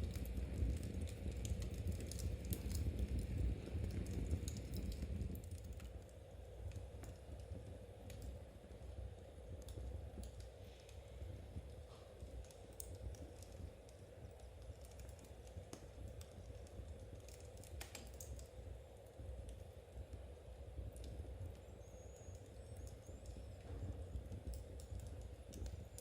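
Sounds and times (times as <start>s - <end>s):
small clicks and crackles: 0.0s - 26.0s.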